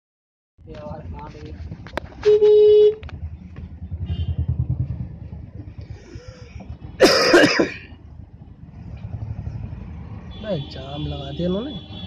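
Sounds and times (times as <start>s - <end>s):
engine and road rumble: 0.6s - 12.0s.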